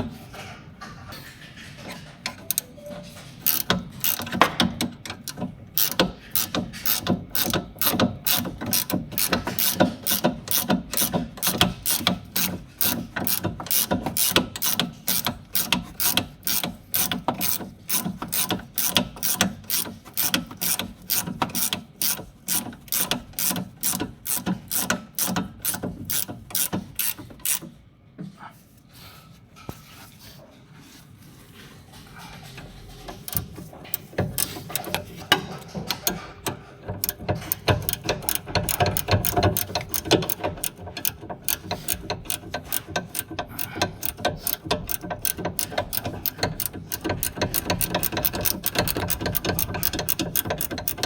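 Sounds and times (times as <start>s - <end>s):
ratchet wrench clicking: 3.4s - 27.7s, 33.3s - 36.2s, 37.0s - 51.0s.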